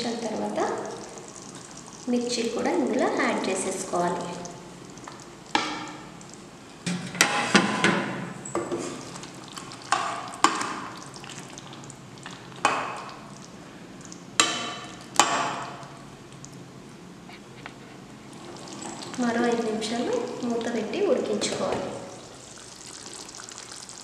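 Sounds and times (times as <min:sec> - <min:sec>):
gravy simmering sizzle: 0:00.0 - 0:06.8, 0:08.6 - 0:17.3, 0:18.0 - 0:24.0.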